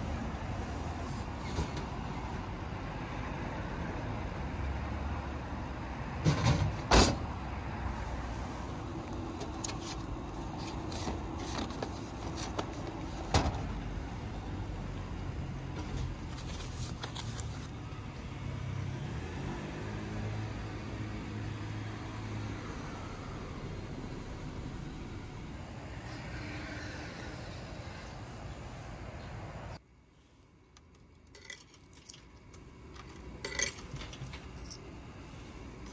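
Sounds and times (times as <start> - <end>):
vehicle engine low hum: 0.0 - 29.8
street traffic: 0.0 - 35.9.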